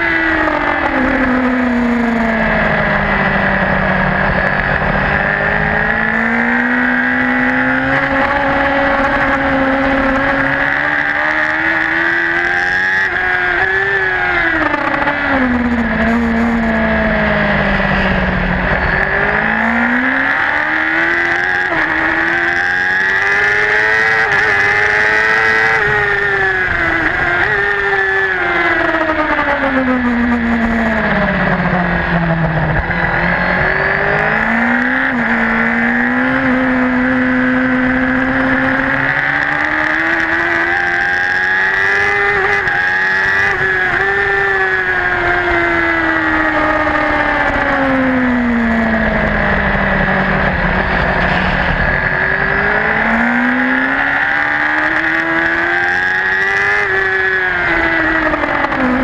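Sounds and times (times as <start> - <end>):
motorcycle engine at race speed: 0.0 - 59.0.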